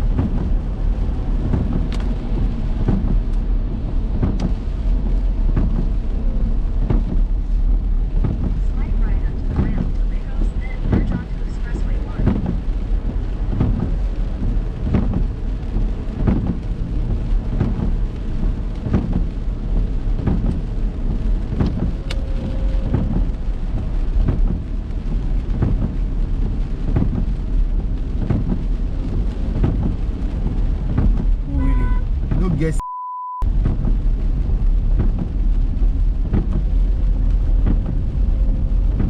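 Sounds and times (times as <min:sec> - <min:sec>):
heavy rain on a car: 0:00.0 - 0:32.8, 0:33.4 - 0:39.0
low rumble: 0:00.0 - 0:39.0.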